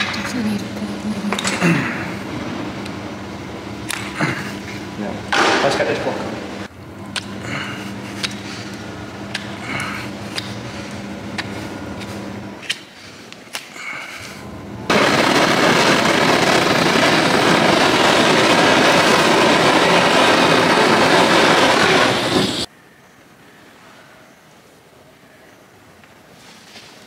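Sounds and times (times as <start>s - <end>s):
low hum: 0.0s - 13.1s, 13.8s - 22.7s
gas torch hissing flame: 0.0s - 22.7s.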